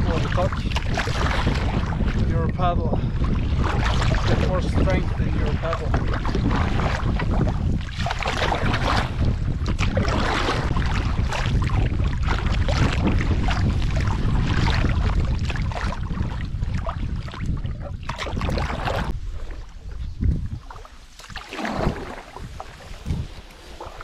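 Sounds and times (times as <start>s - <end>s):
water splashing from paddling: 0.0s - 24.0s
wind buffeting microphone: 0.0s - 24.0s.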